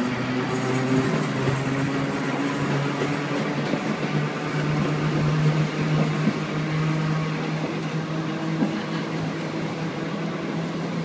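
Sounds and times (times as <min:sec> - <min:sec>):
electric tram hum: 0:00.0 - 0:11.0
tram wheels rumbling: 0:00.0 - 0:11.0.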